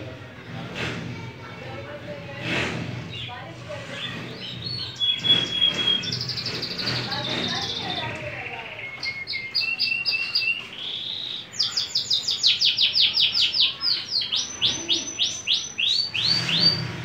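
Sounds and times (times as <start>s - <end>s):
canary singing: 3.1s - 16.9s.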